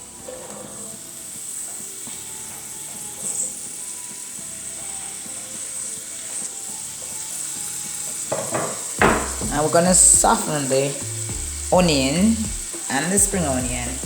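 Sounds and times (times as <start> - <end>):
onion sizzling in a pan: 0.0 - 14.0.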